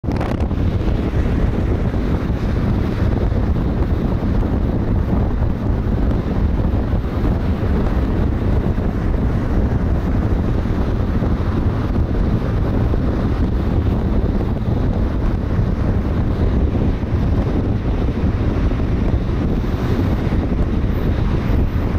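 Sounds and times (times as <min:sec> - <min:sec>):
road noise: 0:00.0 - 0:21.9
wind buffeting the microphone: 0:00.0 - 0:21.9.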